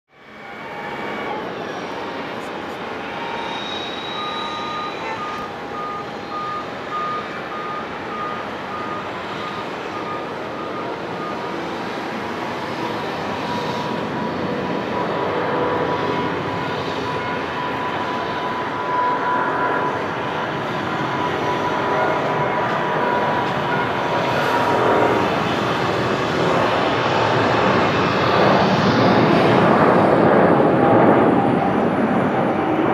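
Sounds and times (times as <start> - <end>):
jet engine noise: 0.1 - 32.9
steady engine whine: 0.1 - 32.9.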